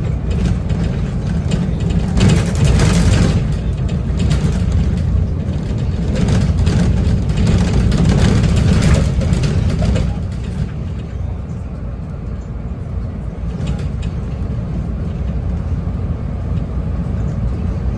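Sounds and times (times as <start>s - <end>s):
bus engine drone: 0.0s - 17.9s
road and tyre noise: 0.0s - 17.9s.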